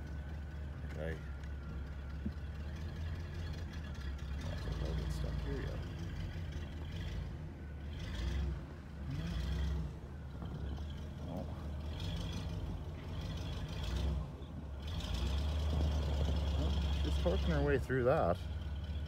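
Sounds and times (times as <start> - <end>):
car engine working under load: 0.0 - 19.0.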